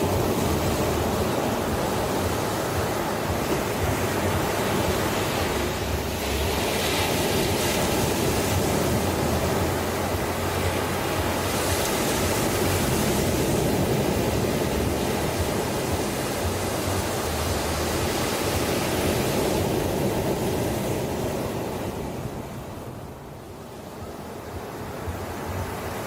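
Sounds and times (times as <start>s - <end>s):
ocean waves washing in: 0.0s - 26.0s.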